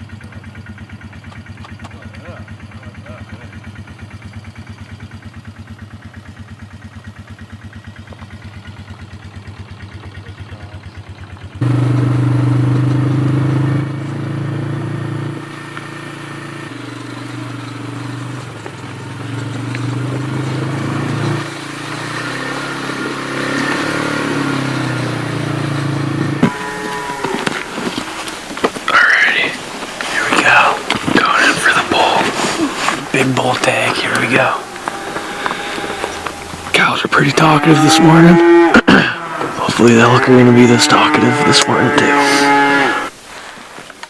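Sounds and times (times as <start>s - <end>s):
vehicle engine idling: 0.0s - 42.4s
vehicle engine driving: 0.0s - 43.2s.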